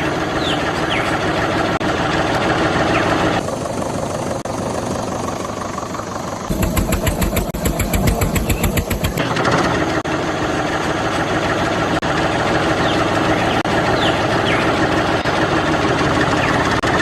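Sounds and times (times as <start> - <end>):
engine running: 0.0 - 17.0
fast even engine chugging: 0.0 - 17.0.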